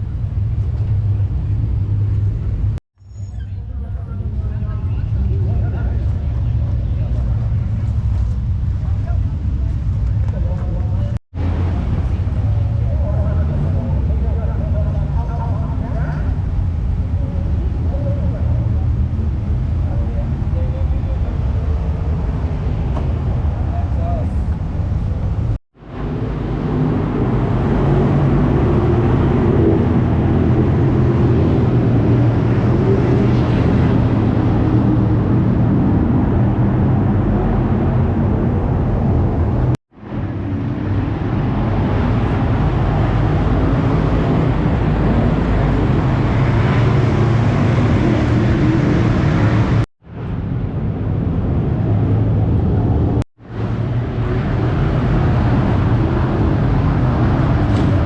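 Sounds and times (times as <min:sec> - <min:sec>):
race car engines running loud: 0:03.6 - 0:58.0.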